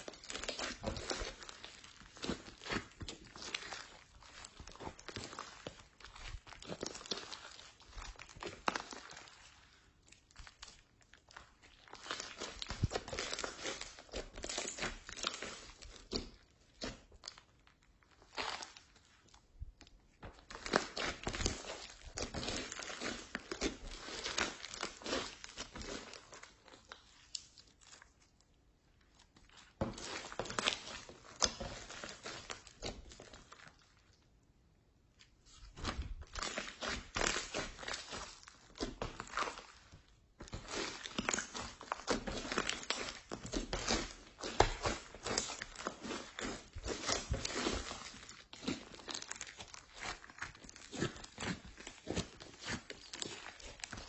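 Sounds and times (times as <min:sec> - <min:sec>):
slime crackling and squelching: 0:00.0 - 0:54.0.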